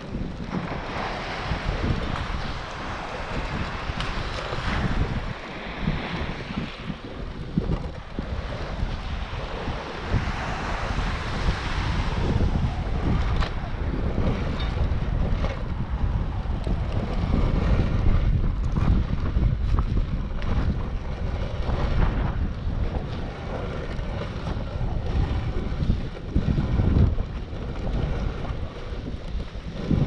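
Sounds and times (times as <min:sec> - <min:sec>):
surf breaking on beach: 0:00.0 - 0:30.0
wind buffeting microphone: 0:00.0 - 0:30.0.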